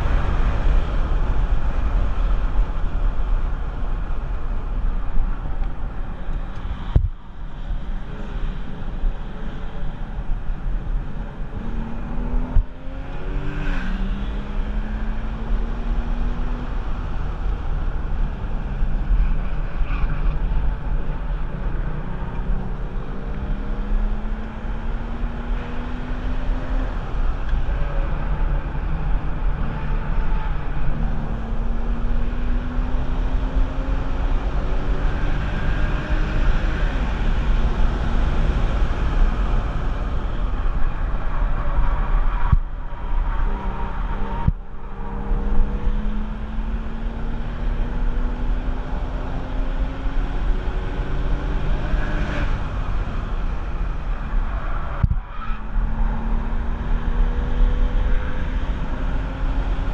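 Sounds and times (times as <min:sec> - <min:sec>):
car engine accelerating: 0:00.0 - 0:59.9
wind and road noise: 0:00.0 - 0:59.9.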